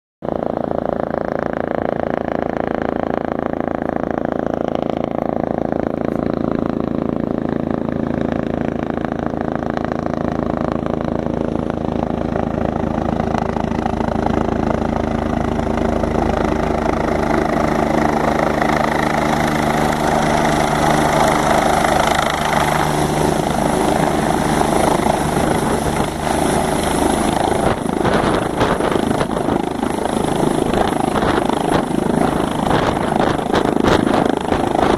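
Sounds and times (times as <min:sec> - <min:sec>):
helicopter rotor and engine running: 0:00.2 - 0:34.9.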